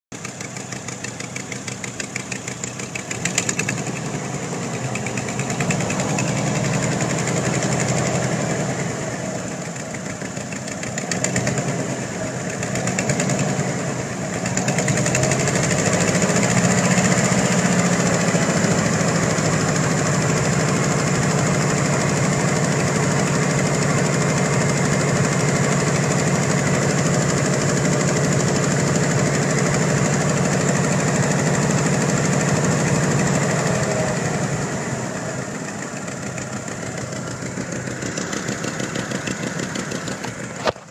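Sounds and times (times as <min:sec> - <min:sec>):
engine revving and idling: 0:00.1 - 0:40.9.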